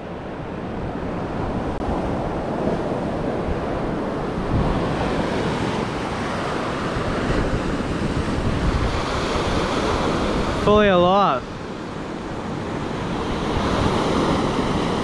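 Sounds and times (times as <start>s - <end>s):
waves washing onto beach: 0.0s - 15.0s
wind buffeting microphone: 0.0s - 15.0s.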